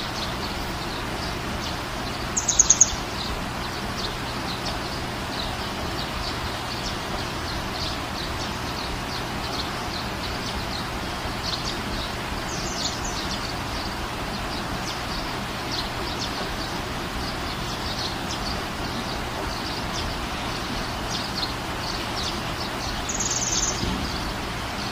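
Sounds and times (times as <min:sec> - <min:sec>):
background hiss: 0:00.0 - 0:24.9
small birds chirping: 0:00.0 - 0:24.9.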